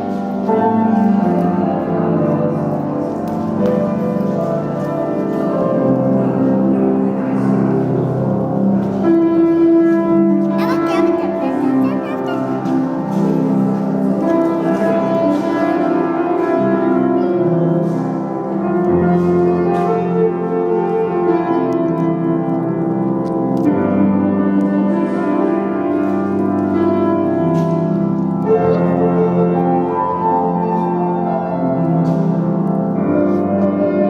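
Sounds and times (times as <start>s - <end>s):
classical piano music: 0.0s - 34.0s.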